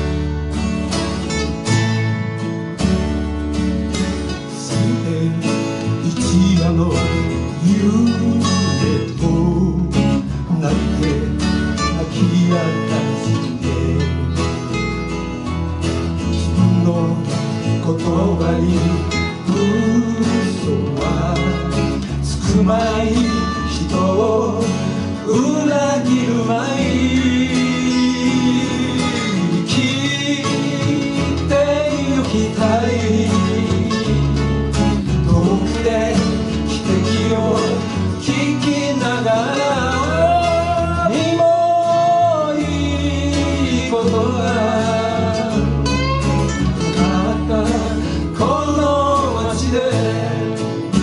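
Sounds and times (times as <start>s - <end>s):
guitars playing folk song: 0.0s - 51.0s
man singing: 4.4s - 14.7s, 16.2s - 51.0s.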